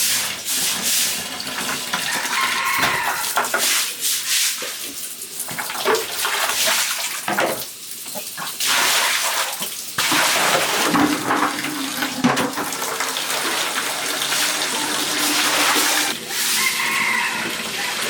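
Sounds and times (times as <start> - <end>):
running splashing water: 0.0 - 18.0.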